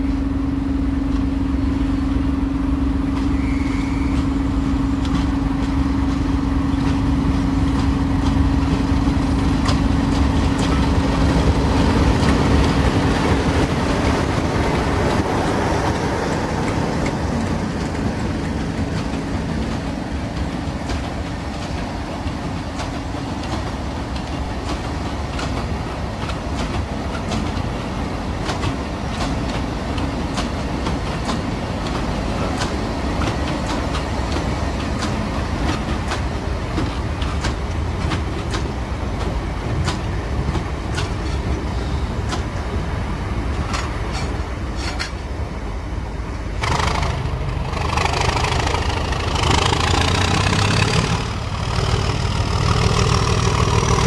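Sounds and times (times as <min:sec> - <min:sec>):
diesel locomotive engine humming: 0:00.0 - 0:54.0
freight wagons rumbling: 0:04.0 - 0:45.9, 0:46.5 - 0:54.0.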